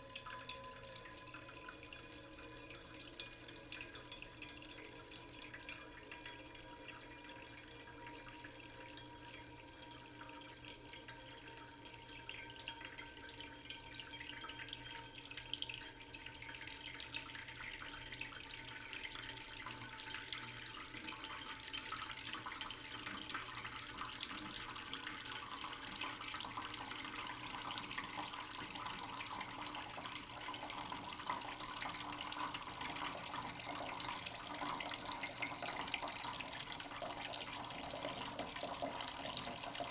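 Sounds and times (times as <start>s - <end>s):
tap water trickling into pot: 0.0s - 39.9s.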